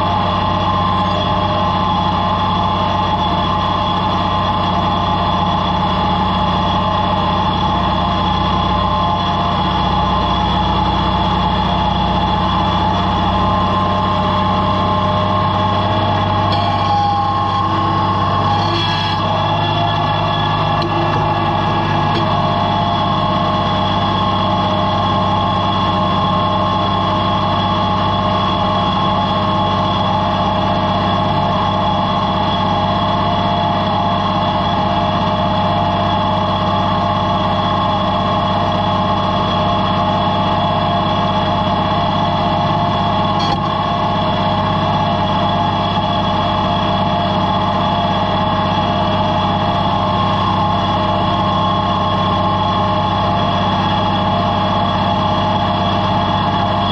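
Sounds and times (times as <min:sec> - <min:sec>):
tractor engine under load: 0:00.0 - 0:56.9.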